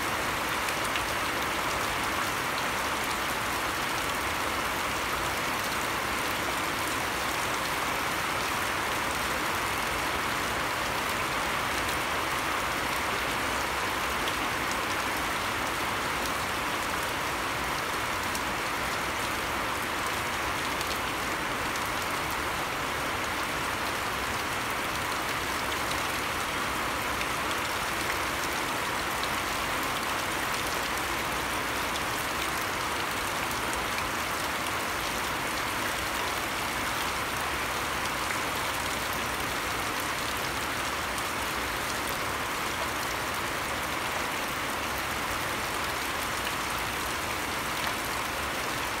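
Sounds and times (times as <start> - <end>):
rain falling on grass and puddle: 0.0 - 49.0.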